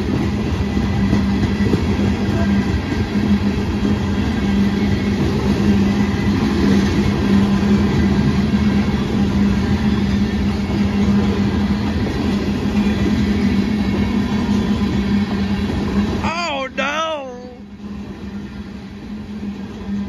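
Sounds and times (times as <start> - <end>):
constant low hum: 0.0 - 20.0
train wheels rumbling on rail: 0.0 - 20.0.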